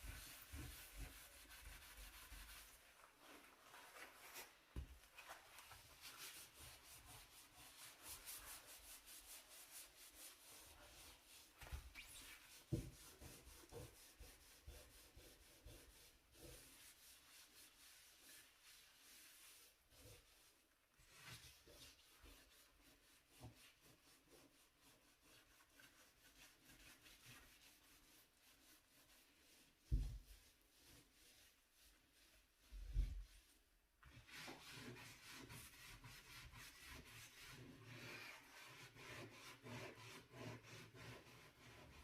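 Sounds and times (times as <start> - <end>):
brush scrubbing a stove: 0.0 - 42.0.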